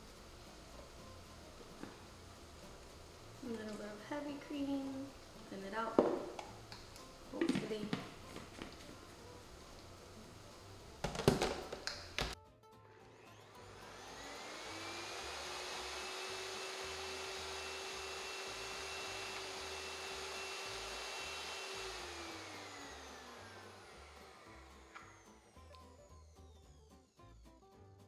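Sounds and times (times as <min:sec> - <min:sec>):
electric blender motor: 0:00.0 - 0:27.7.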